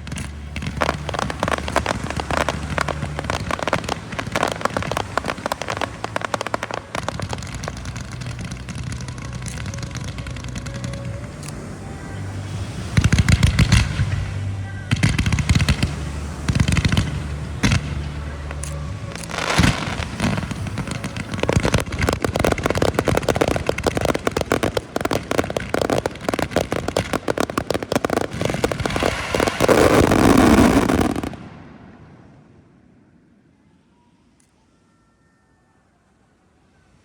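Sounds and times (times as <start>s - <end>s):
fireworks crackling and banging: 0.0s - 32.6s
fireworks echo: 0.0s - 34.1s.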